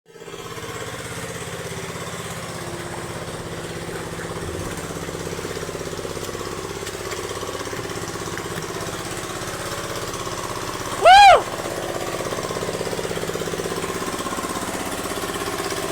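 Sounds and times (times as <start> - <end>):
small engine running: 0.1 - 15.9.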